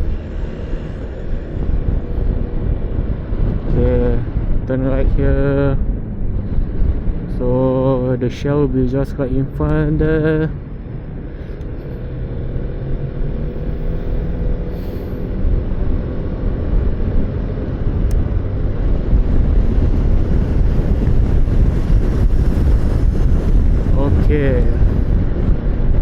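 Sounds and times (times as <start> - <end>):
road noise: 0.0 - 26.0
wind rush: 0.0 - 26.0.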